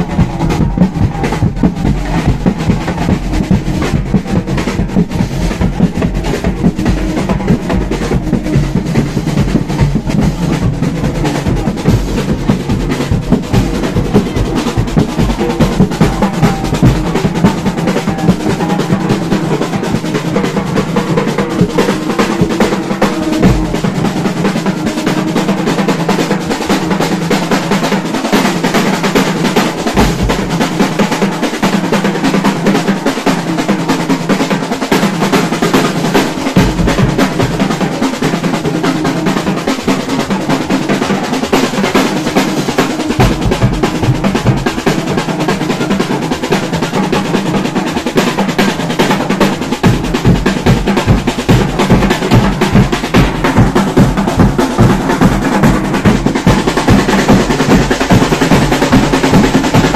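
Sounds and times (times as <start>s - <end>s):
drum band playing: 0.0s - 59.9s.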